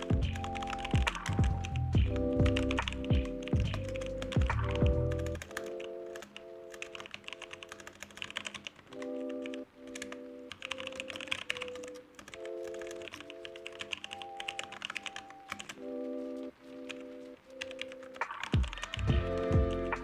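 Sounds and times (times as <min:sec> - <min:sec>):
background music of sustained chords: 0:00.0 - 0:20.0
computer keyboard typing: 0:00.0 - 0:20.0.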